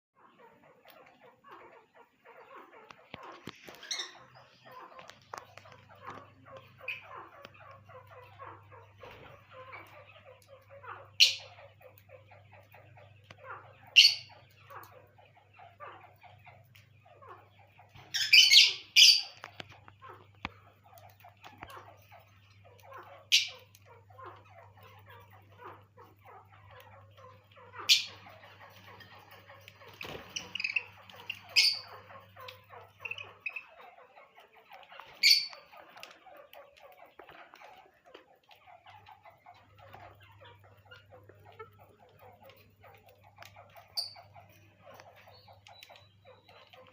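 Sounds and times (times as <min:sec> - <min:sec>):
parrots chattering softly: 0:00.2 - 0:46.9.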